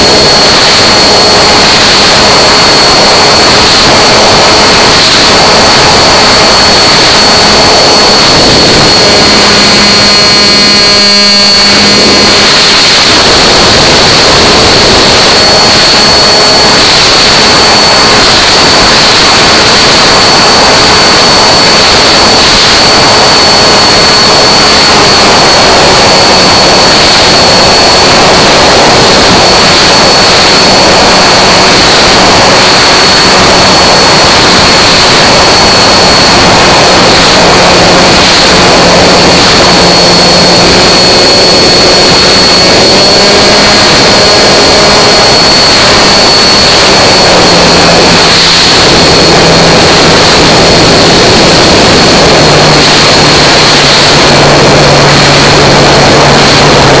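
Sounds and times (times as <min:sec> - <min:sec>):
model plane engine running: 0:00.0 - 0:57.0
rush of air: 0:00.0 - 0:57.0
thin high whine: 0:00.0 - 0:57.0.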